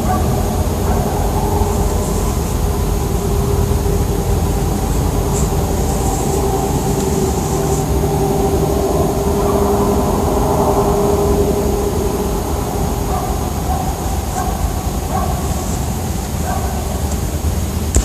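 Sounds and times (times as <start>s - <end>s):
low engine-like drone: 0.0s - 18.0s.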